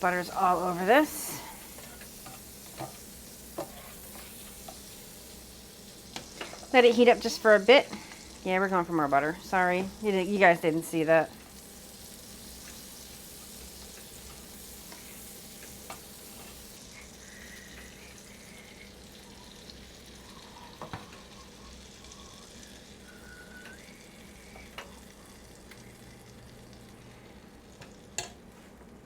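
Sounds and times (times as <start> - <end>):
pancake batter sizzling: 0.0 - 29.0.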